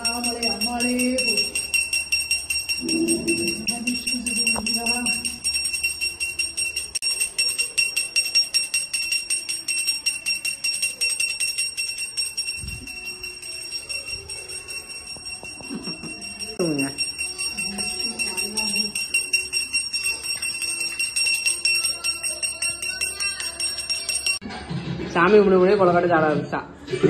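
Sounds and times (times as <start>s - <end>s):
hand bell ringing: 0.0s - 24.4s.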